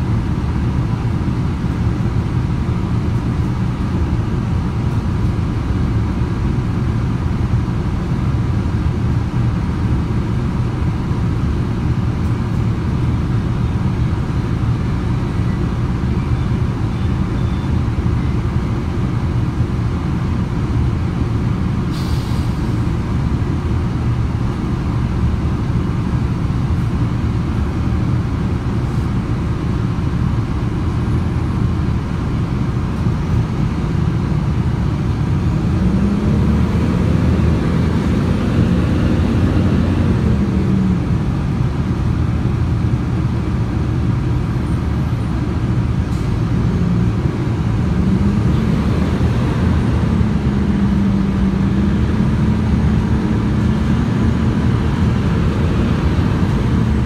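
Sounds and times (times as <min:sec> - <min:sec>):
bus engine low rumble: 0:00.0 - 0:57.0.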